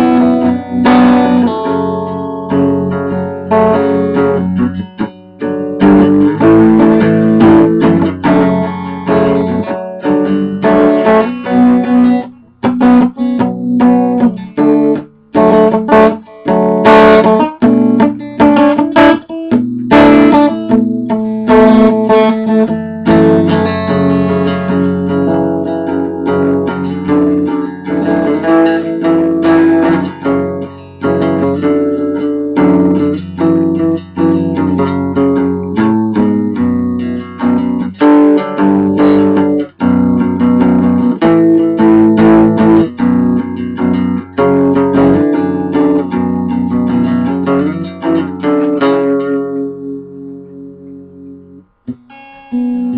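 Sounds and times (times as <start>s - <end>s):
solo guitar improvising: 0.0s - 52.9s.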